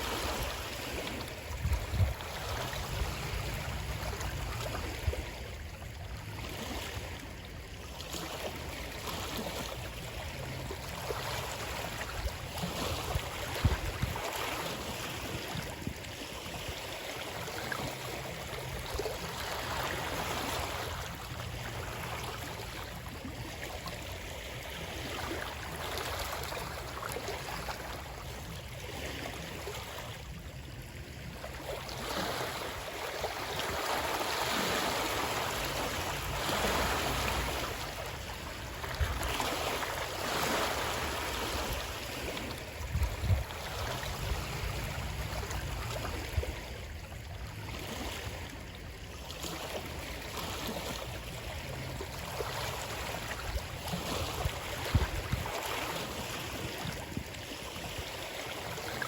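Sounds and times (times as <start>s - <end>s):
rushing splashing water: 0.0s - 59.0s.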